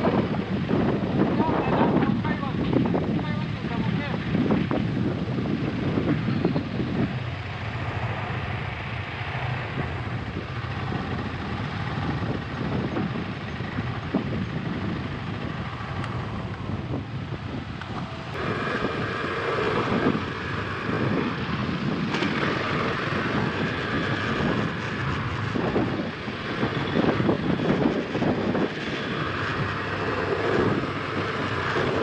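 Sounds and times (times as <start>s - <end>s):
motorcycle engines running: 0.0s - 32.0s.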